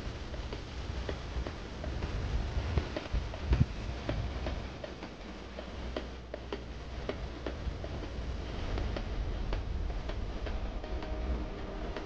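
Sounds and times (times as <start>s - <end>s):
bicycle ticking: 0.0s - 12.0s
wind and tyre rumble: 0.0s - 12.0s.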